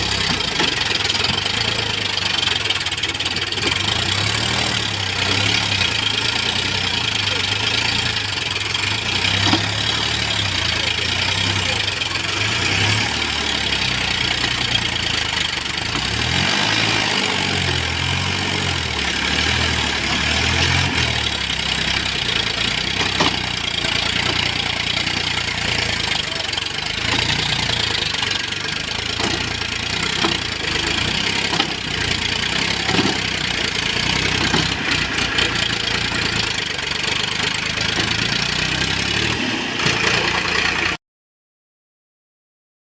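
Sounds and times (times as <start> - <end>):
diesel engines running: 0.0 - 41.0.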